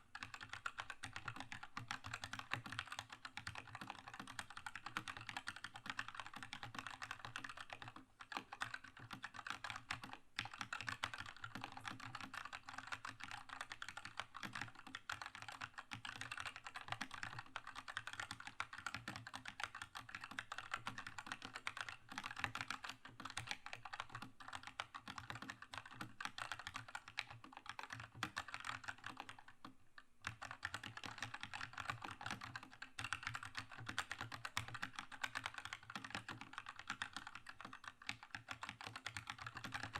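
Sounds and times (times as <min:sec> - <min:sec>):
mechanical keyboard typing: 0:00.2 - 0:29.6, 0:30.2 - 0:39.9.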